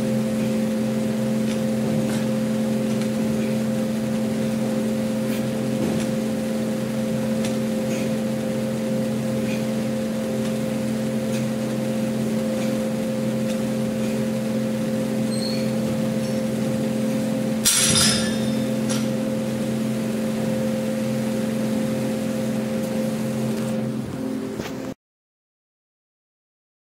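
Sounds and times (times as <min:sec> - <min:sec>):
electric fan motor hum: 0:00.0 - 0:25.0.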